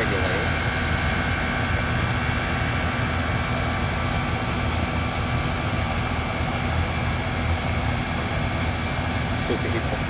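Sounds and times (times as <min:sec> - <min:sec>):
heat pump whirring: 0:00.0 - 0:10.0.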